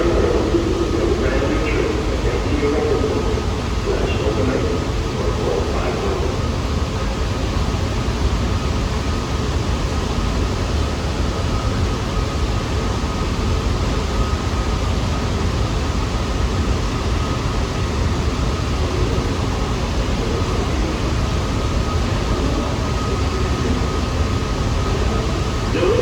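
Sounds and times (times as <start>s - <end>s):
faint steady whine: 0.0s - 26.0s
subway train rumble and hiss: 0.0s - 26.0s.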